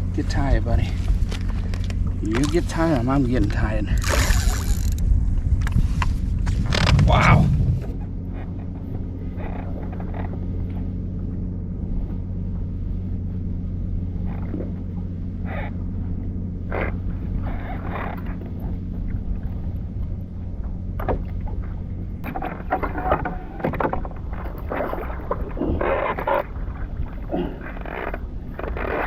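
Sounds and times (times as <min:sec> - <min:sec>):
steady low hum: 0:00.0 - 0:29.0
water splashing around kayak: 0:00.0 - 0:29.0.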